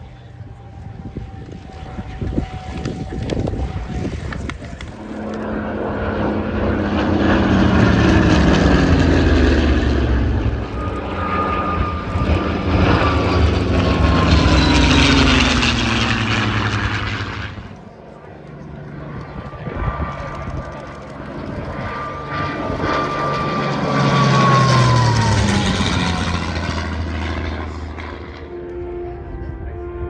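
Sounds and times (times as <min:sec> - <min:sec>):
propeller aircraft flying past: 0:00.0 - 0:30.0.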